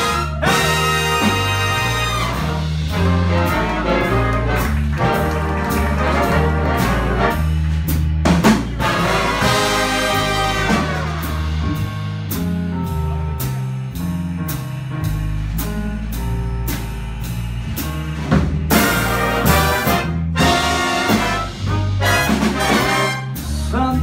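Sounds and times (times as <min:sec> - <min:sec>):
big band playing swing: 0:00.0 - 0:24.0.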